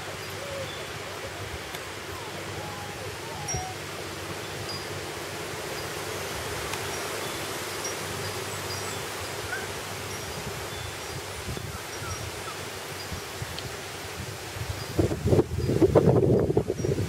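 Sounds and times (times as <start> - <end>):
steady rustling hiss: 0.0 - 17.0.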